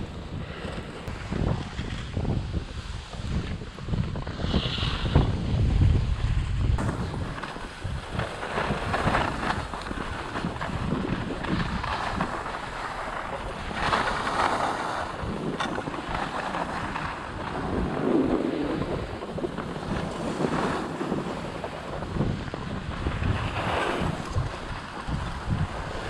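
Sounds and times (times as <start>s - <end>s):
skis scraping over snow: 0.0s - 26.0s
wind rumbling on microphone: 0.0s - 26.0s.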